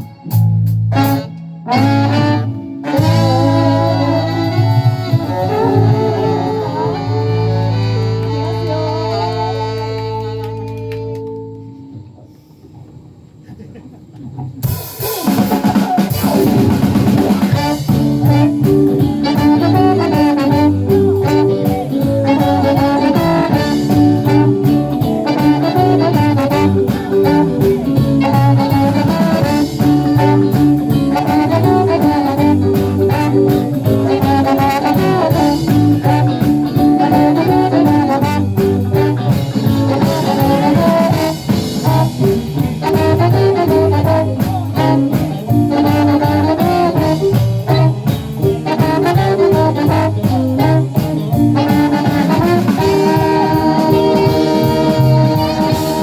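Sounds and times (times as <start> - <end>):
drum kit: 0.0 - 11.6, 14.5 - 56.0
brass: 0.0 - 11.9, 15.0 - 56.0
live jazz band playing: 0.0 - 12.0, 14.6 - 56.0.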